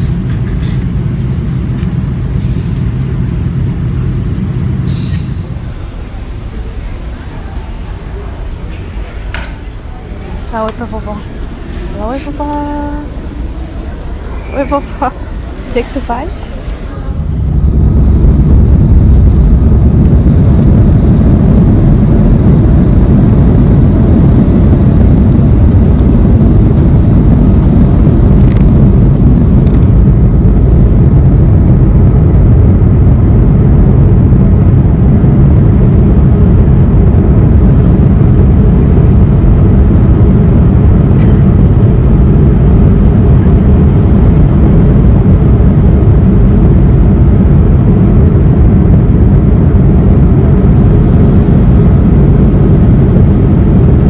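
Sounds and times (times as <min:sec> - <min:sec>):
vehicle cabin rumble: 0:00.0 - 0:54.0.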